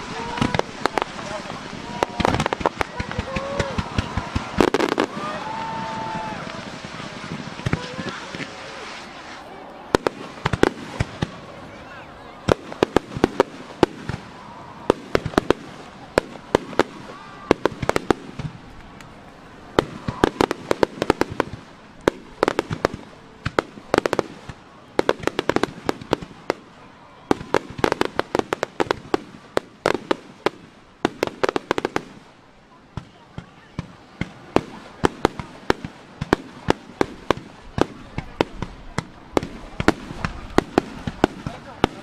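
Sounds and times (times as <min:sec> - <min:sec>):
fireworks bursting: 0:00.0 - 0:42.0.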